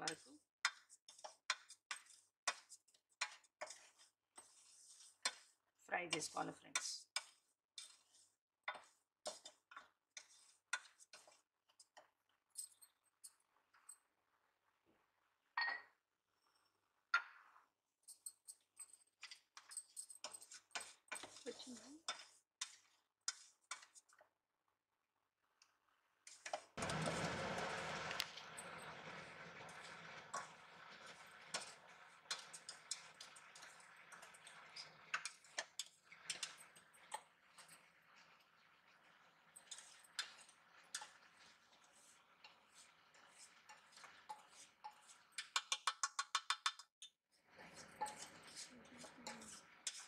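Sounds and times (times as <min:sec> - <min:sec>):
wooden spatula scraping a pan: 0:00.0 - 0:13.0, 0:16.4 - 0:24.2, 0:26.2 - 0:45.9, 0:47.4 - 0:50.0.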